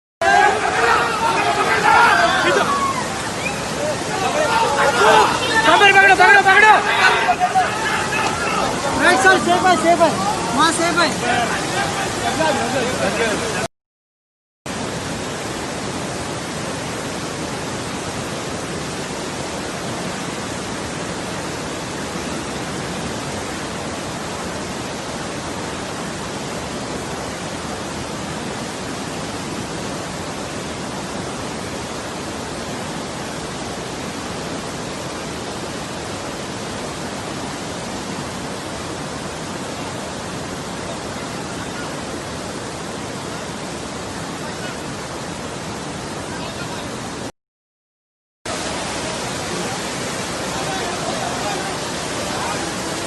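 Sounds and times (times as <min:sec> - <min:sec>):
floodwater rushing: 0:00.2 - 0:13.7, 0:14.7 - 0:47.3, 0:48.5 - 0:53.0.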